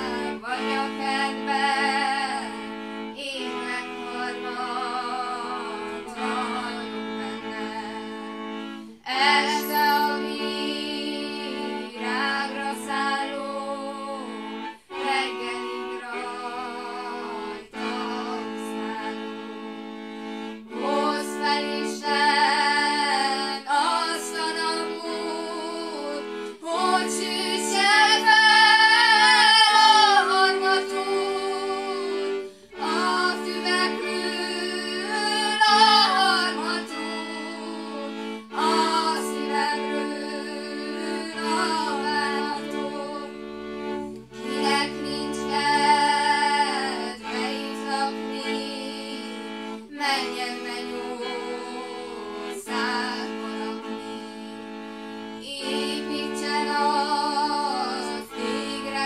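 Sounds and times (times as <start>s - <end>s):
woman singing folk song: 0.0s - 8.3s, 9.0s - 19.3s, 20.8s - 43.3s, 44.4s - 54.6s, 55.4s - 59.0s
fiddle sustained tones: 0.0s - 59.0s.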